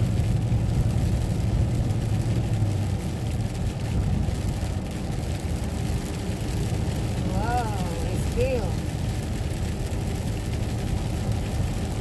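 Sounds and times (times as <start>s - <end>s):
truck engine and tyre drone: 0.0s - 12.0s.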